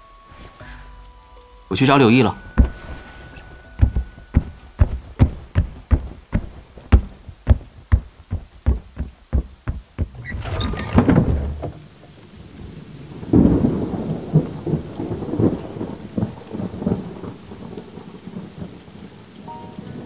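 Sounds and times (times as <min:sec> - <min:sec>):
steady rain: 0:00.0 - 0:20.0
thunder rumbling: 0:02.3 - 0:19.2.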